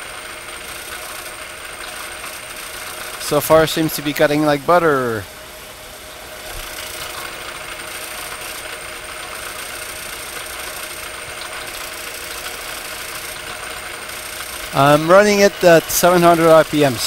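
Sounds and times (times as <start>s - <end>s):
milling machine cutting metal: 0.0s - 17.0s.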